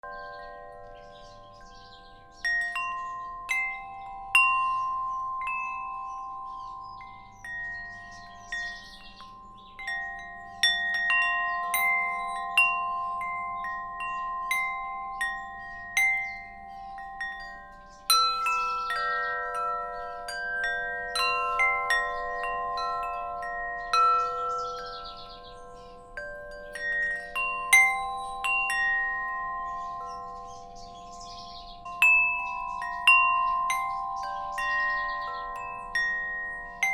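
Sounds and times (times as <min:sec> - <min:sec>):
faint birds chirping: 0:00.0 - 0:36.9
wind chimes ringing: 0:00.0 - 0:36.9.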